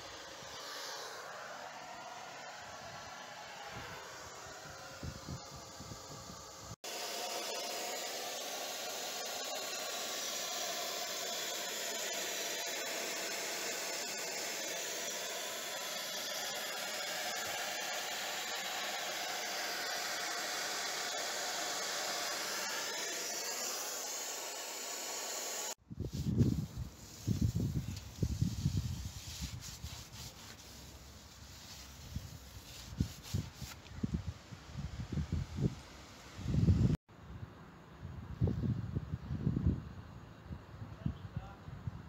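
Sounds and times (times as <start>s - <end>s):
fan motor whooshing hiss: 0.0s - 37.0s.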